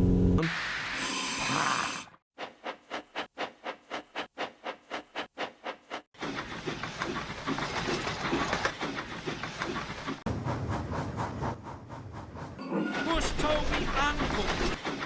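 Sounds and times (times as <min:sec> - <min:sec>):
steam locomotive chuffing: 0:02.4 - 0:15.0.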